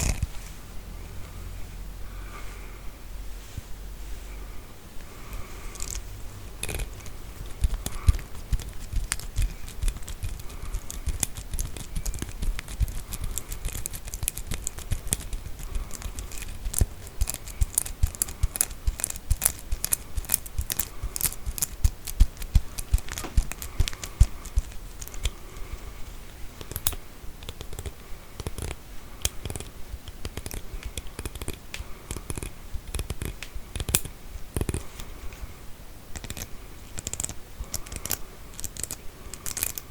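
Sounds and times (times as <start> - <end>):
combs clicking and tapping: 5.0 - 35.5, 36.1 - 39.9.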